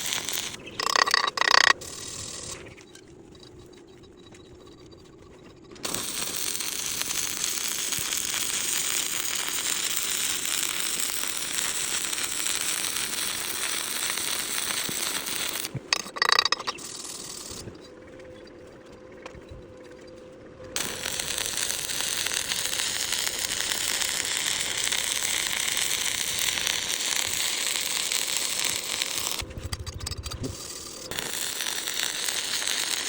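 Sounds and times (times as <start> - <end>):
welding arc crackling: 0.0 - 2.8, 5.7 - 17.8, 20.8 - 33.0.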